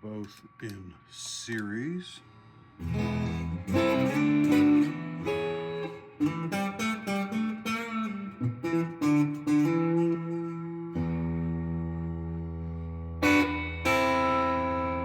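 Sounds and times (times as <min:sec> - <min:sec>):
clean electric guitar: 0:02.2 - 0:15.0.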